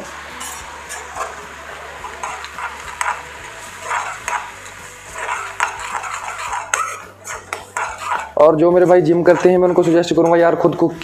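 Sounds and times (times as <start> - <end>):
simmering pot hiss: 0.0 - 11.0
metal spoon scraping pan: 0.4 - 10.9.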